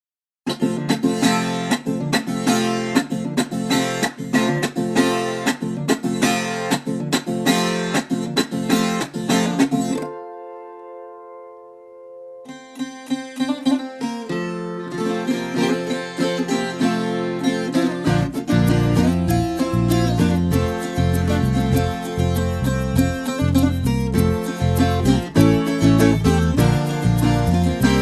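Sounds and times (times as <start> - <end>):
folk guitar picking a melody: 0.5 - 28.0.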